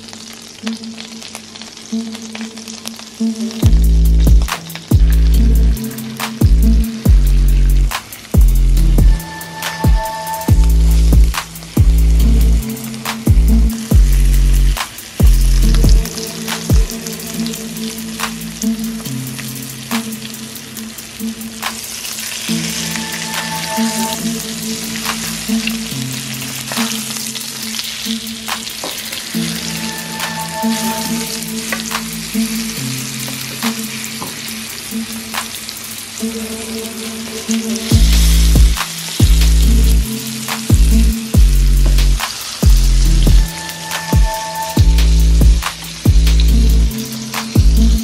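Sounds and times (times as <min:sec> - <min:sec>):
fish frying in hot oil: 0:00.0 - 0:48.0
background music: 0:00.6 - 0:48.0.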